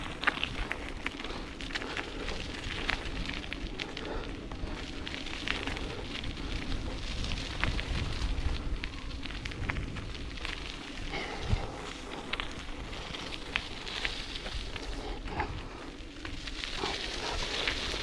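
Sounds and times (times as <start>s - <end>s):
bicycle tyres on gravel: 0.0s - 18.0s
wind buffeting the microphone: 0.0s - 18.0s.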